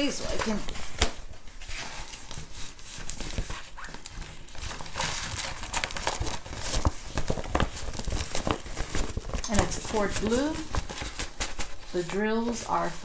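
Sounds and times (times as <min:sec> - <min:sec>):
canvas and plastic sheet crinkling: 0:00.0 - 0:13.0.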